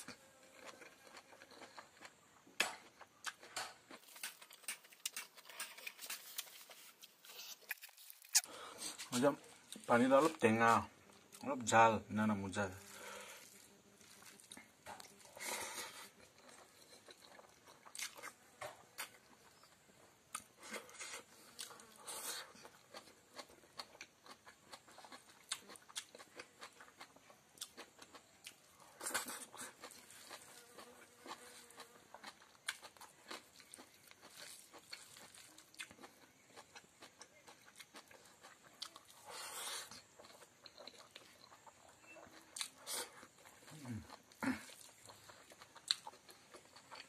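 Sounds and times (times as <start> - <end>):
person chewing: 0.0 - 11.6, 12.7 - 47.0.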